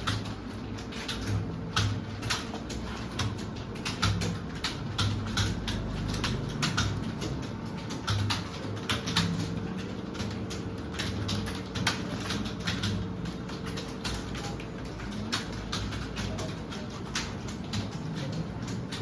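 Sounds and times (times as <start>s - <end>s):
keyboard typing: 0.0s - 19.0s.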